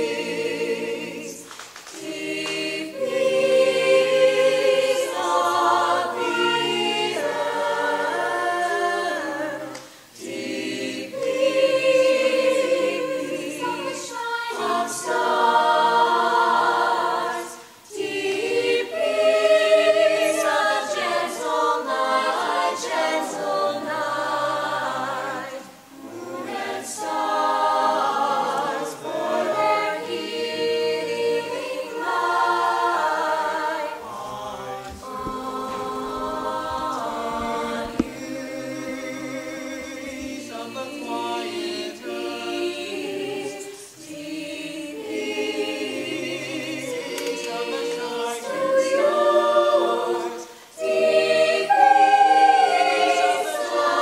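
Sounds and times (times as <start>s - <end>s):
mixed-voice choir singing: 0.0s - 54.0s.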